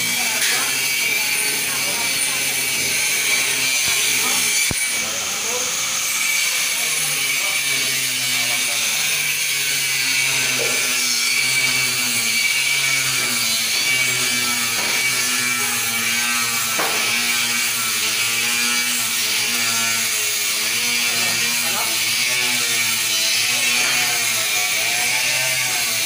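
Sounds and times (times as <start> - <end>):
machinery whir: 0.0 - 26.0.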